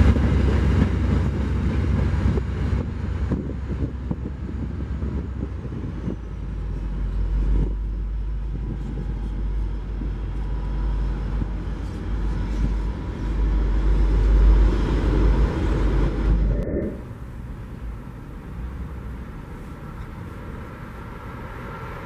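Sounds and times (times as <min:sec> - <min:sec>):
train passing with low rumble: 0:00.0 - 0:22.0.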